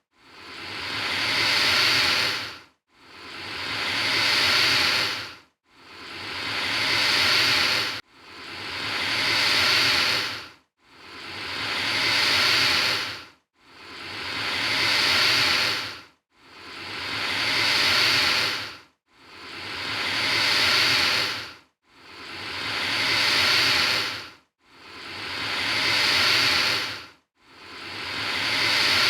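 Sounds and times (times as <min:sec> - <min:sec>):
alligator hissing: 0:00.4 - 0:02.6, 0:03.2 - 0:05.3, 0:05.9 - 0:08.0, 0:08.6 - 0:10.4, 0:11.1 - 0:16.0, 0:16.6 - 0:24.2, 0:24.9 - 0:27.0, 0:27.7 - 0:29.0.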